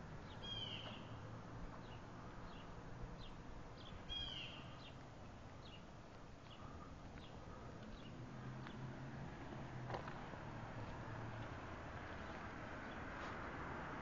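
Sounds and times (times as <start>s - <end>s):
birds chirping: 0.2s - 9.1s, 10.0s - 13.7s.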